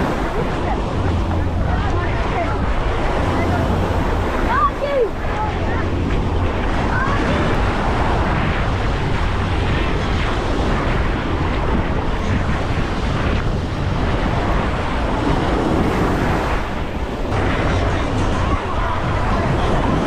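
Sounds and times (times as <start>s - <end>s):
small waves breaking on shore: 0.0s - 20.0s
wind rumbling on microphone: 0.0s - 20.0s.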